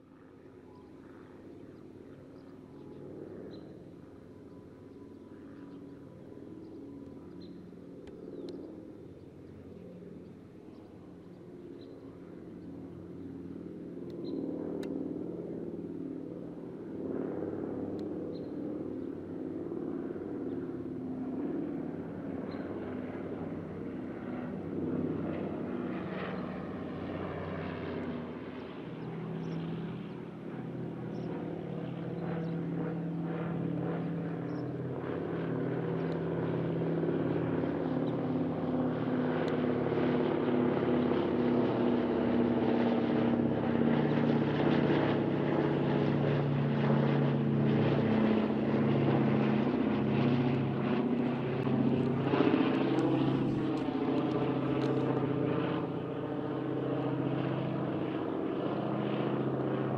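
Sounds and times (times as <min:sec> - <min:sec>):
propeller plane engines droning: 0:00.0 - 0:59.9.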